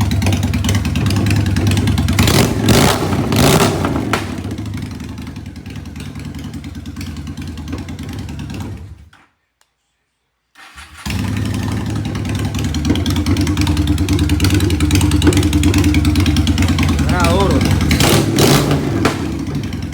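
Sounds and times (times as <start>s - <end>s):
motorcycle engine starting: 0.0s - 9.1s, 10.6s - 19.9s
motorcycle idling: 0.0s - 9.1s, 10.6s - 19.9s.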